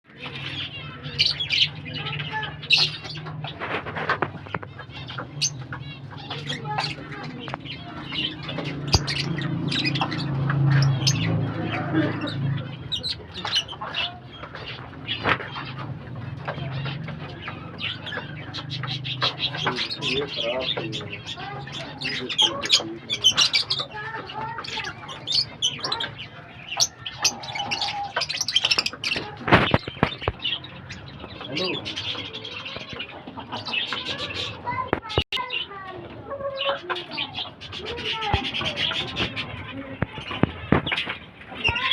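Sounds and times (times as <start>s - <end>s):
lovebirds chirping and squawking: 0.1s - 41.9s.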